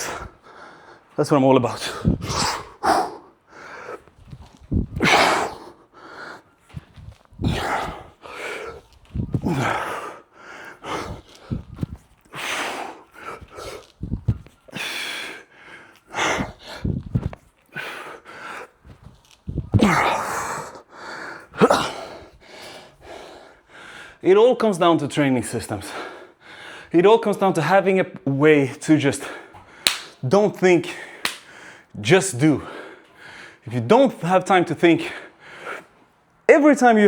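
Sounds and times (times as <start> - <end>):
man breathing hard: 0.0 - 24.2, 25.7 - 27.0, 29.2 - 30.2, 30.8 - 33.7, 35.1 - 36.2.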